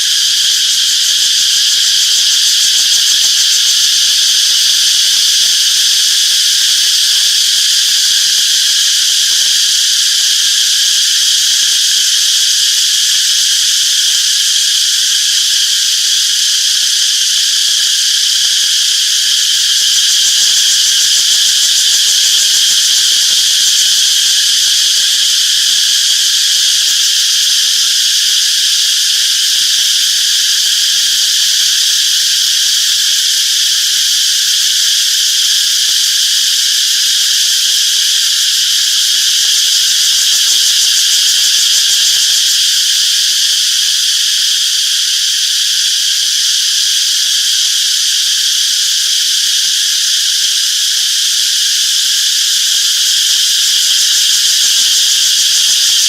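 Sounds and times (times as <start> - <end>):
cicadas chirping: 0.0 - 56.0.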